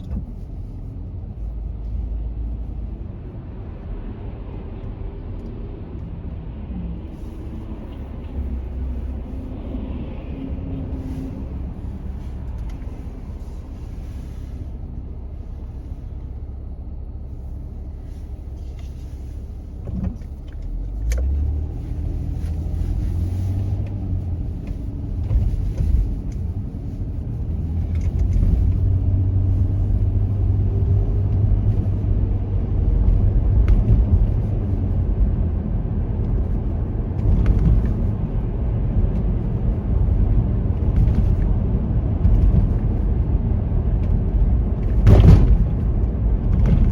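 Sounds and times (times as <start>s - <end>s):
car tyres and engine rumble: 0.0s - 46.9s.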